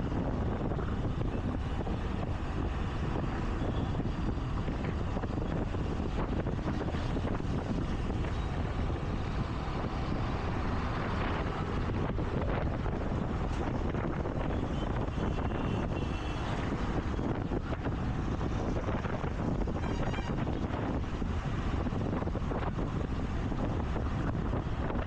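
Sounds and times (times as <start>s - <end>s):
road and traffic noise: 0.0s - 25.0s
wind on microphone: 0.0s - 25.0s.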